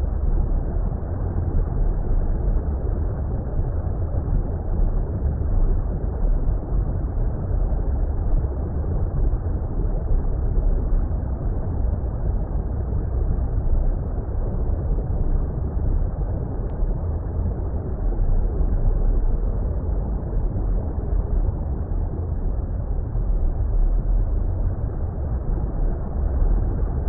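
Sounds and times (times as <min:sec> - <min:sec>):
muffled underwater rumble: 0:00.0 - 0:27.0.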